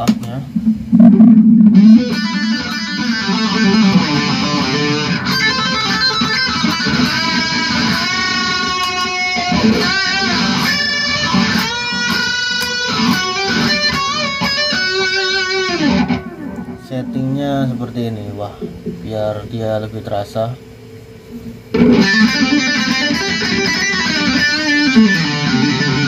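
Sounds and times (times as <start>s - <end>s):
electric guitar with wah effect: 0.0s - 17.4s, 20.8s - 26.0s.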